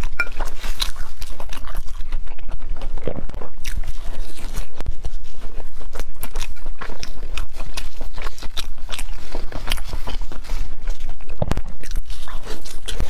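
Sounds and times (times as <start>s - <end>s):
chewing and biting: 0.0s - 13.0s.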